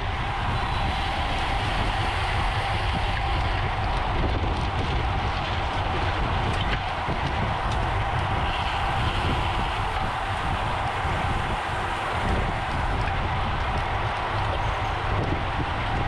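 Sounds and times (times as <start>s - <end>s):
road rumble: 0.0s - 16.0s
wind rush: 0.0s - 16.0s.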